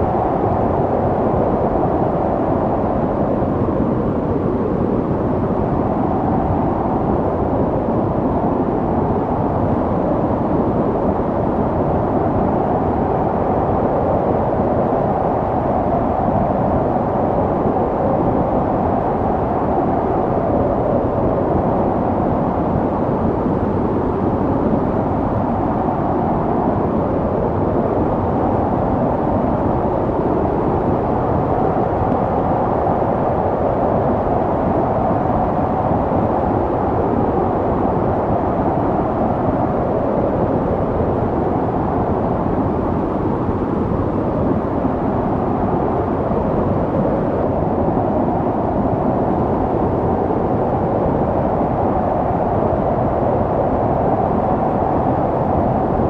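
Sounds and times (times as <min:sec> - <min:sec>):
snowstorm wind howling: 0:00.0 - 0:56.0.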